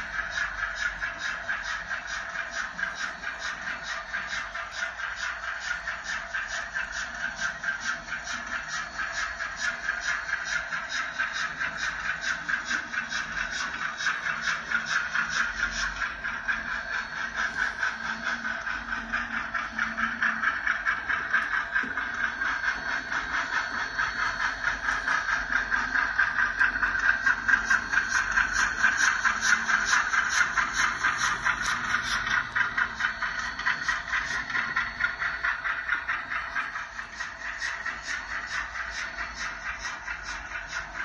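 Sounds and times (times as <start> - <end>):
model steam locomotive chuffing: 0.0 - 41.0.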